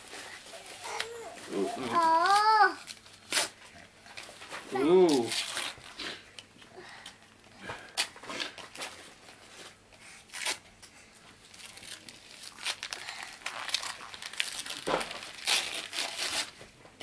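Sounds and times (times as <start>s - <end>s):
wrapping paper tearing and crinkling: 0.0s - 6.3s, 7.8s - 10.6s, 11.4s - 16.6s.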